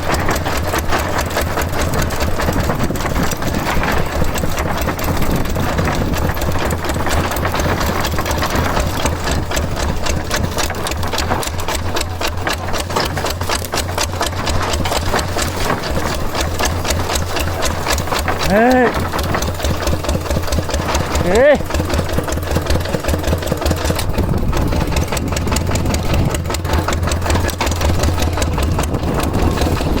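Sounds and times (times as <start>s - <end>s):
small tractor engine clattering: 0.0s - 30.0s.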